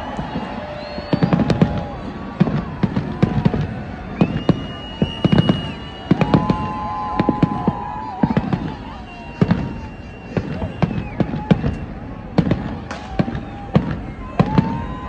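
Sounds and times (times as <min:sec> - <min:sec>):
fireworks bangs and pops: 0:00.0 - 0:15.0
fireworks whistling: 0:00.0 - 0:15.0.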